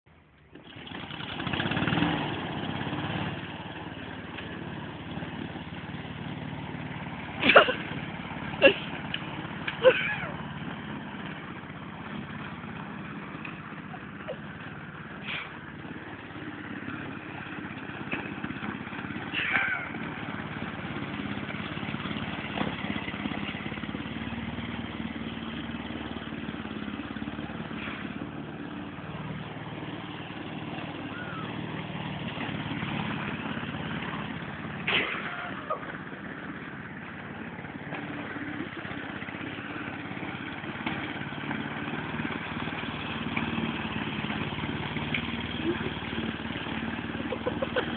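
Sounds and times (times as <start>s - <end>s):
lawn mower engine running: 0.1s - 47.9s.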